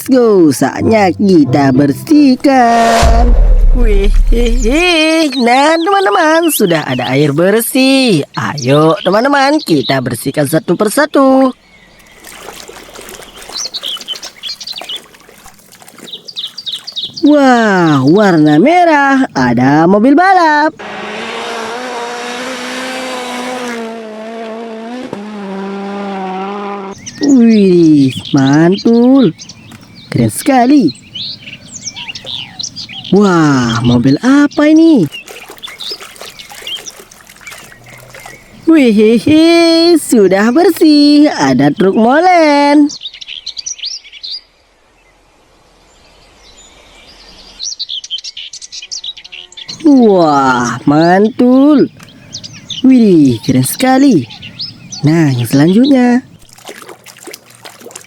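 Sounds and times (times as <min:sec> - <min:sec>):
small birds chirping: 0:00.0 - 0:20.8, 0:26.6 - 0:57.9.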